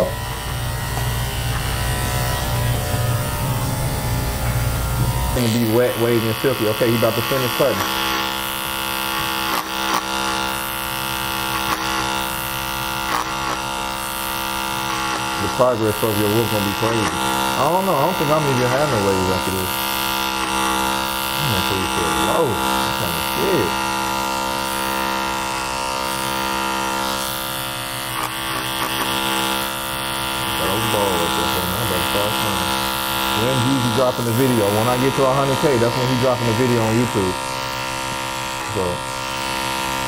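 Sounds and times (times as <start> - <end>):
hair clipper buzzing: 0.0 - 40.0.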